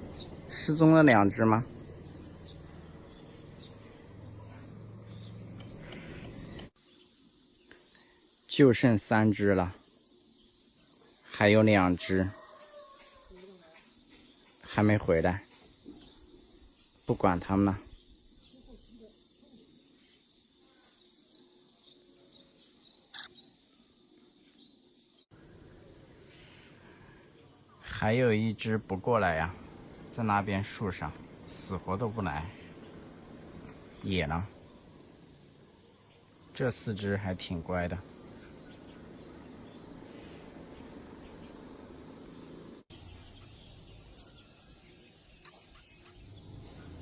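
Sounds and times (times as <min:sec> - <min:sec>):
insects chorus: 0:00.0 - 0:47.0.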